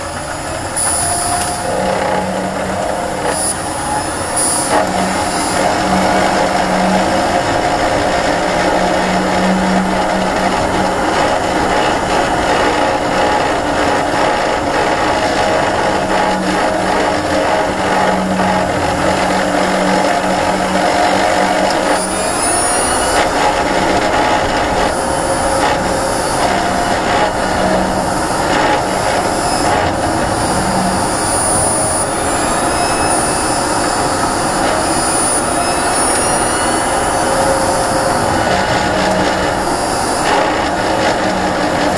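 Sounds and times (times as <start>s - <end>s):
road and drive noise: 0.0s - 41.9s
thin high whine: 0.0s - 41.9s.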